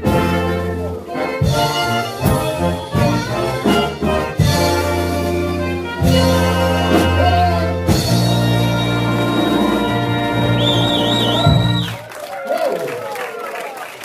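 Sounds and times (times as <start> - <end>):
accented band hits: 0.0 - 12.0
big band playing jazz: 0.0 - 12.1.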